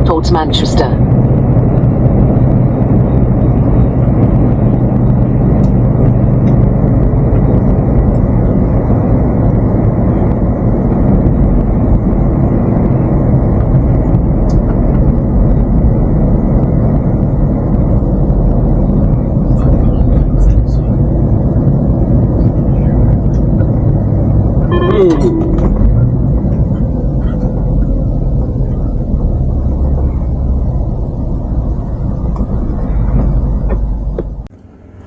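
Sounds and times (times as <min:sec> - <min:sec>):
diesel engine hum: 0:00.0 - 0:35.0
road and tyre noise: 0:00.0 - 0:35.0.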